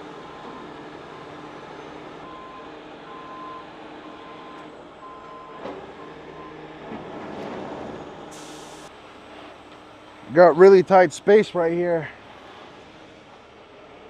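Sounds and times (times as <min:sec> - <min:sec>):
tow truck engine running: 0:00.0 - 0:14.0.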